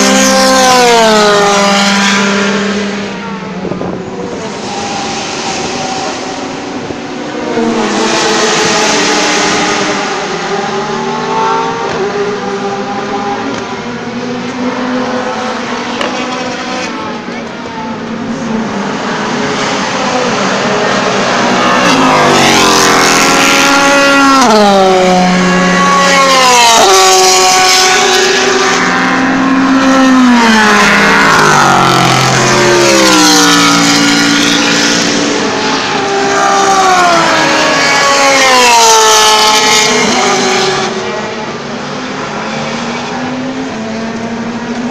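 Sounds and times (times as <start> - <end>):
race cars passing at speed: 0.0 - 44.9.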